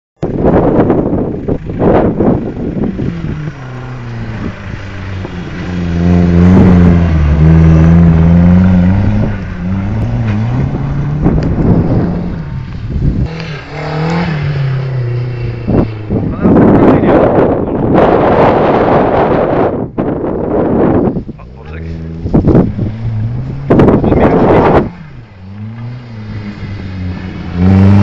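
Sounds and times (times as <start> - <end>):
car engine revving hard: 0.4 - 19.8, 20.6 - 28.0.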